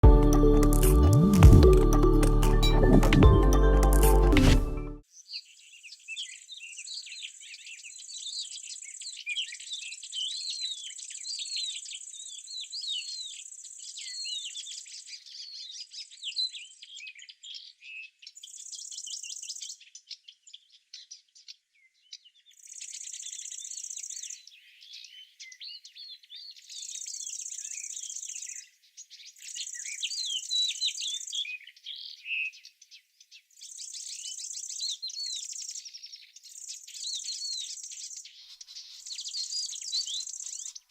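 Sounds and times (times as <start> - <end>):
small birds chirping: 5.0 - 40.9.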